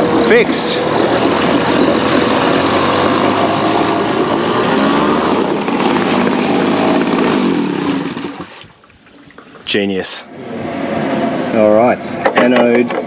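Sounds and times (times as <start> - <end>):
outboard motor running: 0.0 - 10.9.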